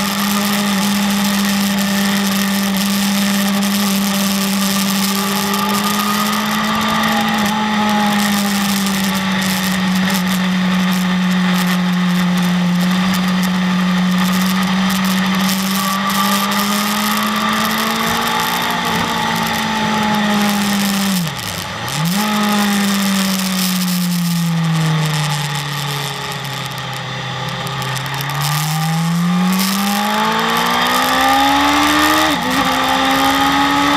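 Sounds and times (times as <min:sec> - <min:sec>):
sport bike engine at high revs: 0:00.0 - 0:33.9.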